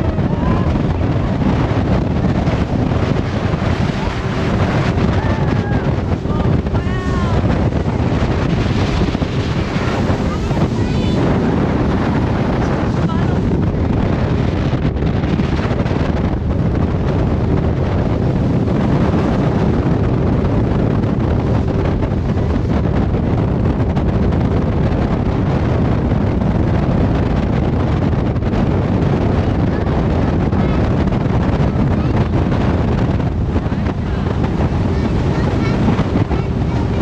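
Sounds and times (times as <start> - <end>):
jet boat engine: 0.0 - 37.0
rushing water: 0.0 - 37.0
wind buffeting on microphone: 0.0 - 37.0.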